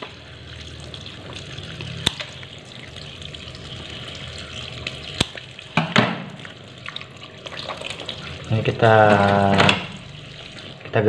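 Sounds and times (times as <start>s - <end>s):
tap water running into sink: 0.0s - 10.9s.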